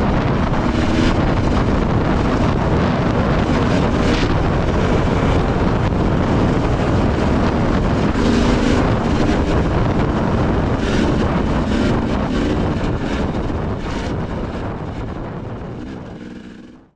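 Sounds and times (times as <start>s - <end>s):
dirt bike engine running: 0.0s - 16.9s
wind noise on microphone: 0.0s - 16.9s.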